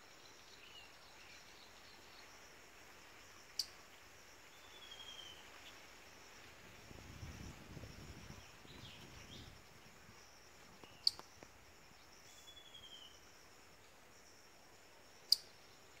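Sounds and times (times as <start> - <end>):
faint high insect chirr: 0.0 - 16.0.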